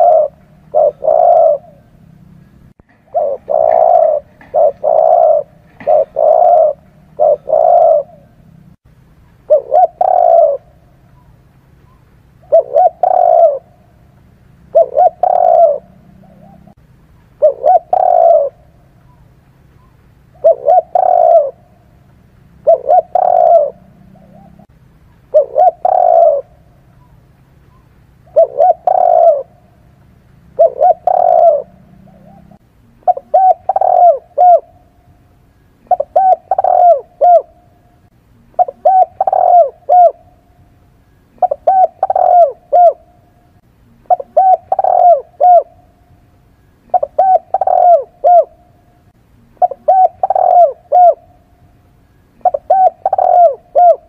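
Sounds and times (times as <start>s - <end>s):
dove cooing: 0.0s - 8.8s, 9.4s - 16.8s, 17.4s - 35.2s, 35.8s - 51.7s, 52.4s - 54.0s.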